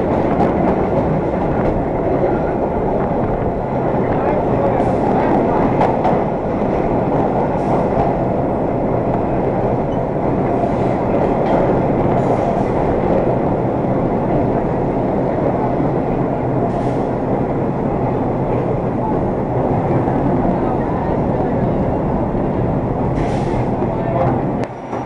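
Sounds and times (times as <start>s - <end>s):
subway car rumble in tunnel: 0.0s - 25.0s.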